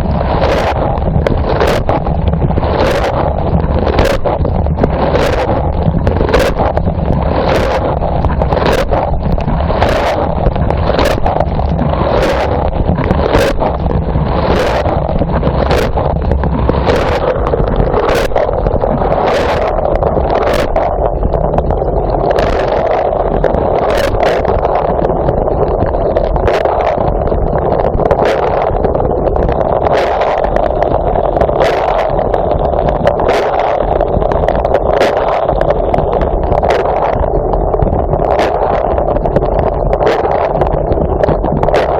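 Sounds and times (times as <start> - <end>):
water jets splashing: 0.0 - 41.9.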